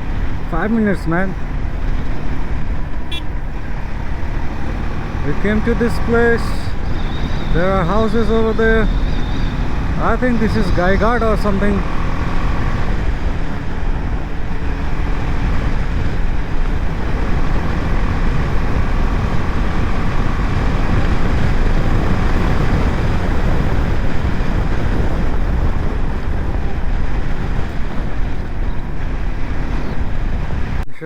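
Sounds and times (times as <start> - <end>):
wind rush over microphone: 0.0 - 30.9
motorcycle engine running: 0.0 - 31.0.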